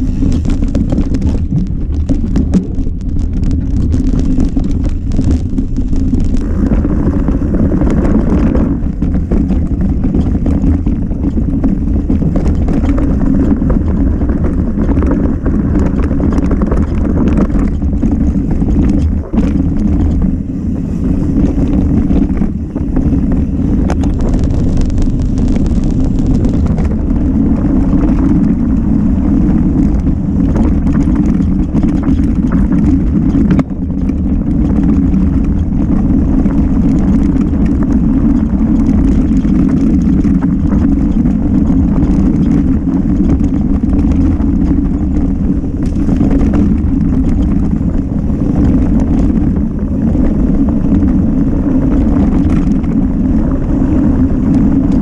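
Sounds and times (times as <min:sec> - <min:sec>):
bike rattling and knocking: 0:00.0 - 0:55.0
tyres rumbling on trail: 0:00.0 - 0:55.0
wind buffeting microphone: 0:00.0 - 0:55.0.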